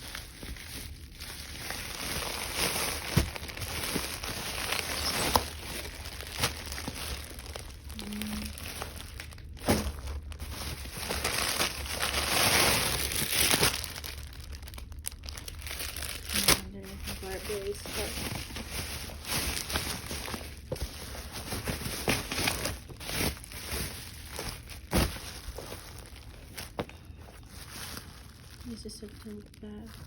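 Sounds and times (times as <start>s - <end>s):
packing material crinkling: 0.0s - 30.0s.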